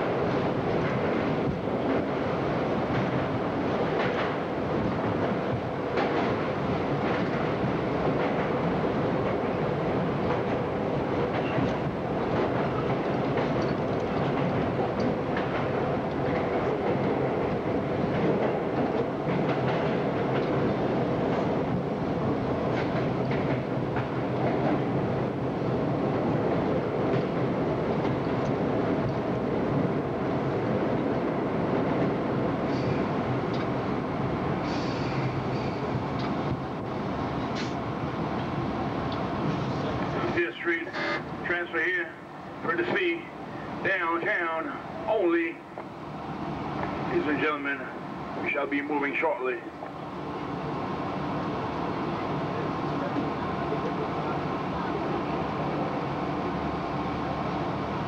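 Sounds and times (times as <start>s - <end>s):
subway train rumbling on rails: 0.0s - 58.0s.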